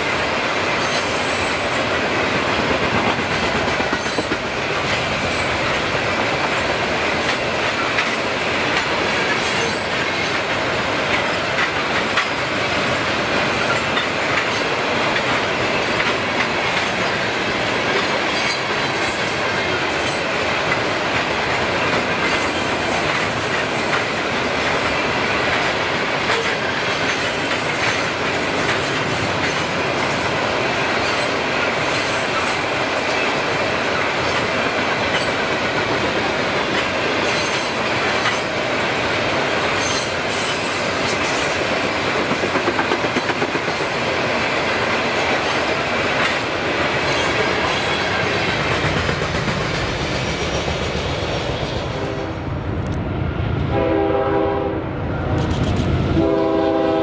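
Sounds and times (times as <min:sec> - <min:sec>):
steel wheels rumbling on rail: 0:00.0 - 0:57.0
wheels clicking over rail joints: 0:00.8 - 0:38.8, 0:39.4 - 0:51.0.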